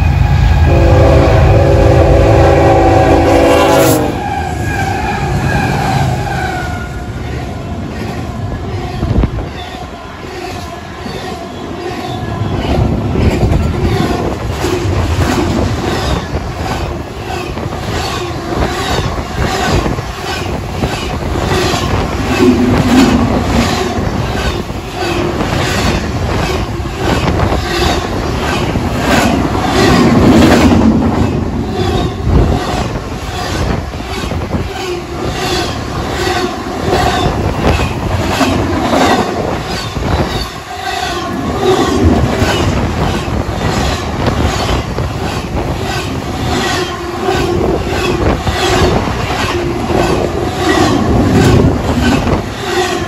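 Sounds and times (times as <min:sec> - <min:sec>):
train rumble: 0:00.0 - 0:53.0
train wheels clacking over rail joints: 0:10.4 - 0:53.0.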